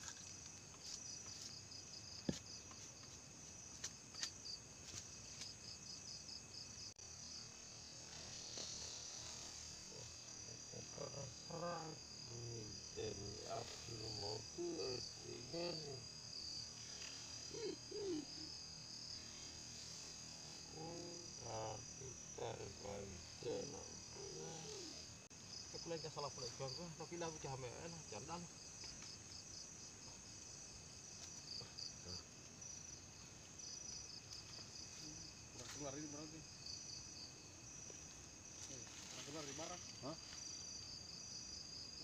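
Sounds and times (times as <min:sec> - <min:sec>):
night insects chirping: 0:00.0 - 0:42.0.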